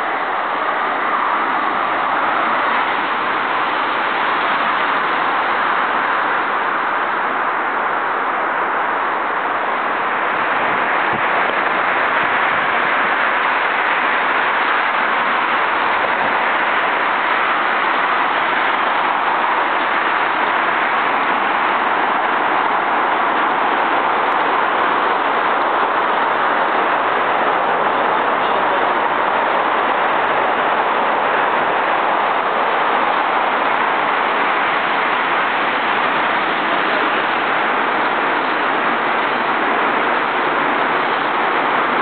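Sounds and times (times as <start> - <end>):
road traffic noise: 0.0 - 42.0.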